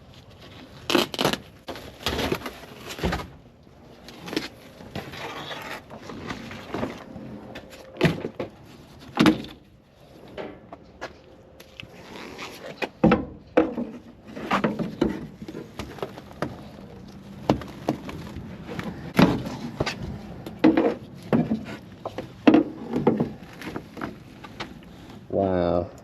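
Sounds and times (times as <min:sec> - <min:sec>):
knocks clunks and scraping: 0:01.7 - 0:25.3.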